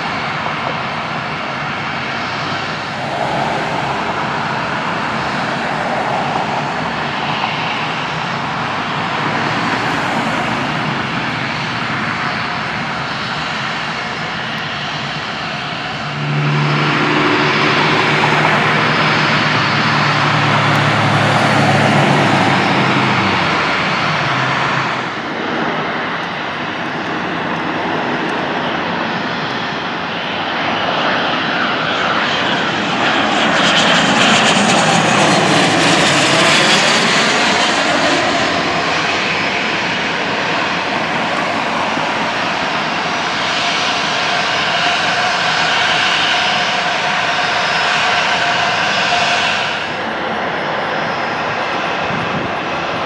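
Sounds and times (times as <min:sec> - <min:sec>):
jet engine rush: 0:00.0 - 0:53.0
propeller plane engine drone: 0:00.0 - 0:53.0.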